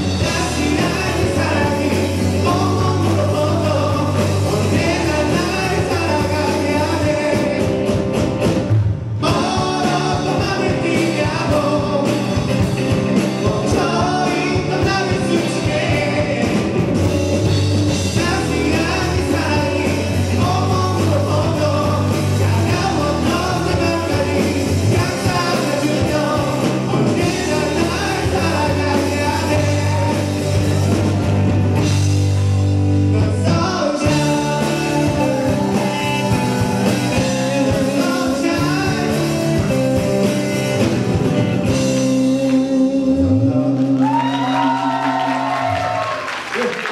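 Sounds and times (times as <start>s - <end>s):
lead singer vocals: 0.0s - 8.4s, 9.1s - 31.0s, 33.0s - 40.4s, 41.7s - 46.9s
rock band playing: 0.0s - 46.9s.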